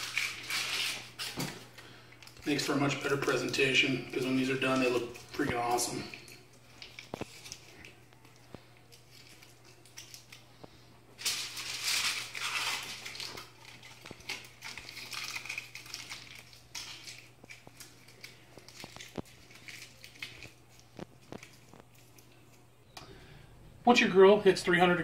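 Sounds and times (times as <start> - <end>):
aluminum foil tearing: 0.0 - 8.1, 8.9 - 10.5, 11.2 - 22.2
foil crinkling: 0.0 - 22.4.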